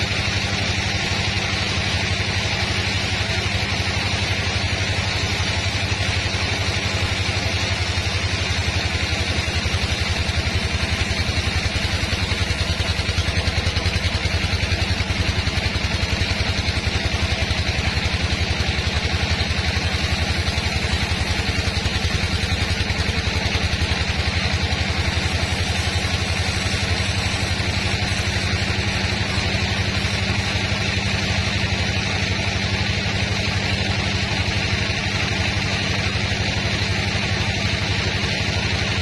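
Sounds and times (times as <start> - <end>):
sawmill engine running: 0.0 - 39.0.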